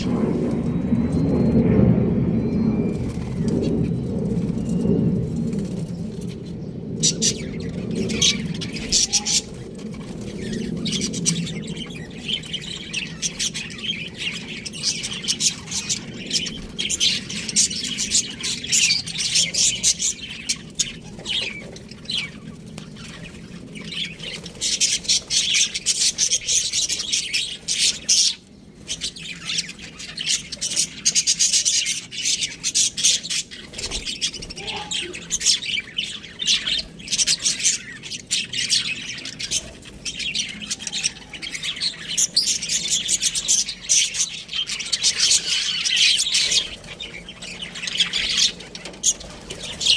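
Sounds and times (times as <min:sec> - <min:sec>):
budgerigars chirping and chattering: 0:00.0 - 0:01.5, 0:02.4 - 0:49.9.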